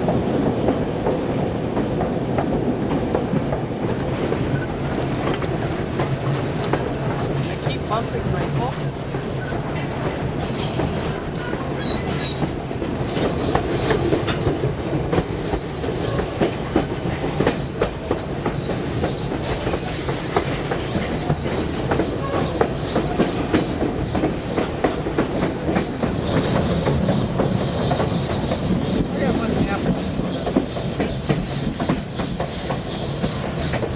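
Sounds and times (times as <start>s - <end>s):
track clicks and clacks: 0.0s - 33.9s
train wheels rumbling on rails: 0.0s - 33.9s.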